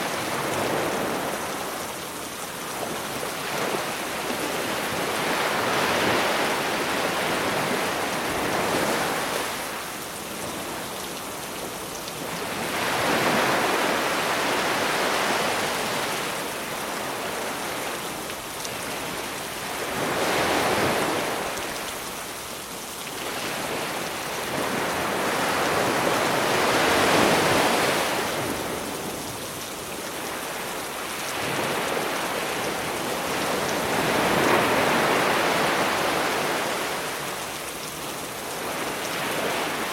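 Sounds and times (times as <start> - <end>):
sea waves breaking on shore: 0.0 - 22.3, 23.0 - 39.9.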